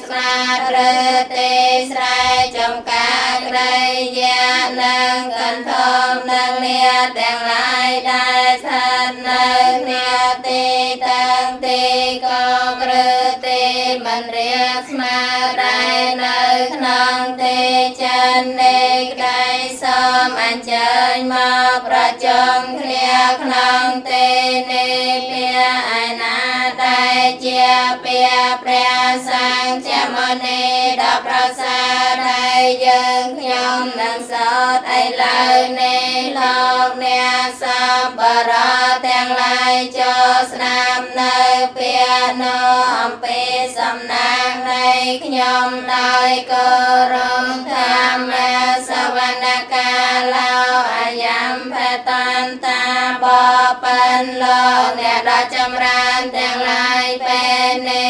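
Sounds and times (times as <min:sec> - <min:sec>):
women chanting: 0:00.0 - 0:58.0.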